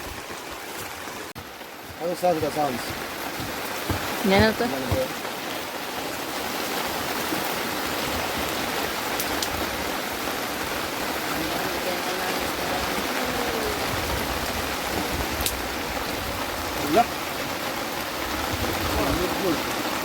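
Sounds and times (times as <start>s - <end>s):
heavy rain: 0.0s - 20.0s
running water: 0.0s - 20.0s.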